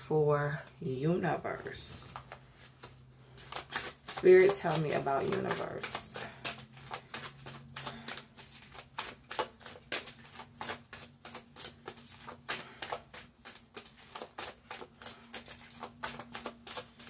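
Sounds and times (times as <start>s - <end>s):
cards being shuffled: 1.6s - 17.0s.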